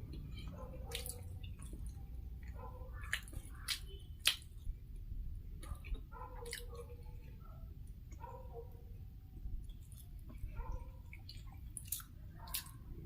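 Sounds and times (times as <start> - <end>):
wet chewing and lip smacking: 0.0 - 8.5, 9.4 - 13.0.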